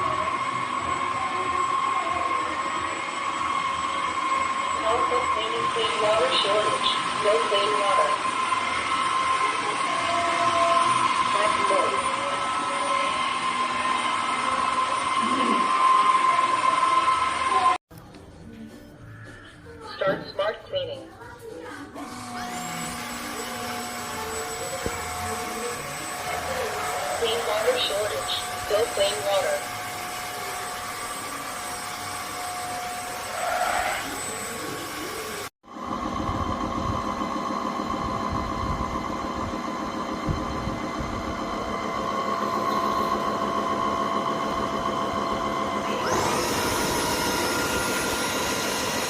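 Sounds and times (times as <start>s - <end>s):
vacuum mop motor whining: 0.0s - 17.8s, 22.0s - 49.0s.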